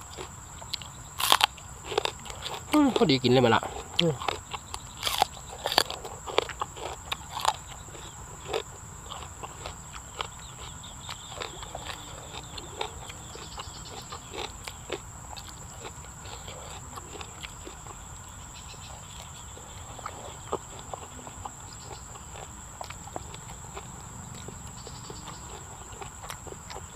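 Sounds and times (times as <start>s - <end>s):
wet chewing and lip-smacking: 0.0s - 26.9s.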